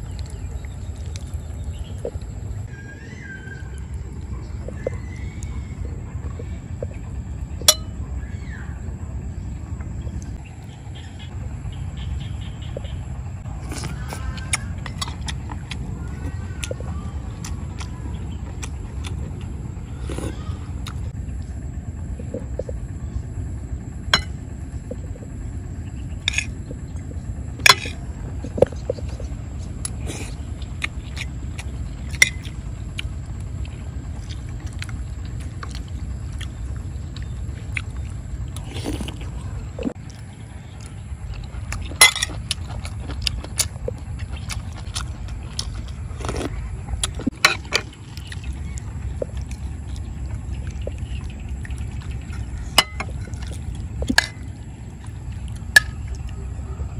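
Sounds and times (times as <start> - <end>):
low rumble: 0.0 - 56.9.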